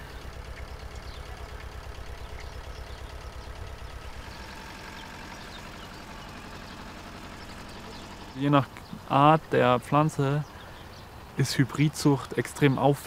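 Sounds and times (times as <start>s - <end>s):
tractor engine throbbing: 0.0s - 13.0s.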